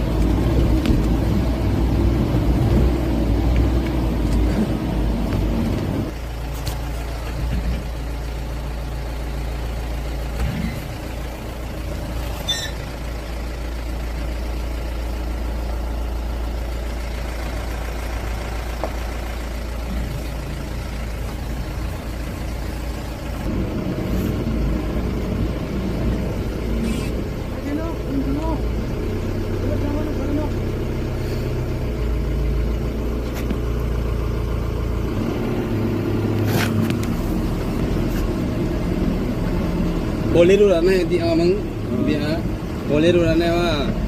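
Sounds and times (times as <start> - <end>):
diesel engine running low: 0.0 - 44.0.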